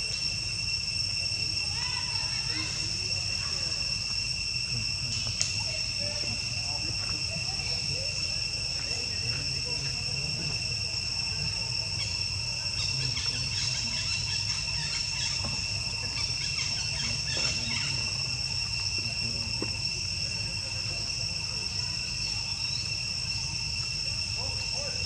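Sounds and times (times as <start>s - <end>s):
crickets trilling: 0.0s - 25.0s.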